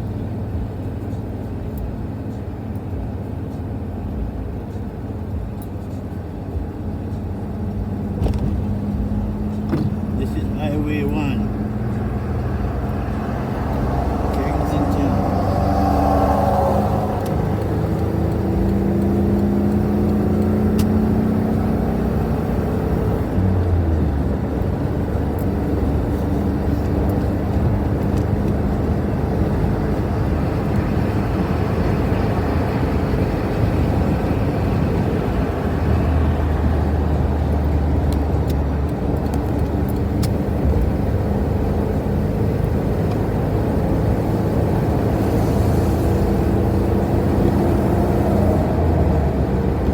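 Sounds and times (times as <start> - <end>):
car engine hum: 0.0 - 49.9
tyre road noise: 0.0 - 49.9.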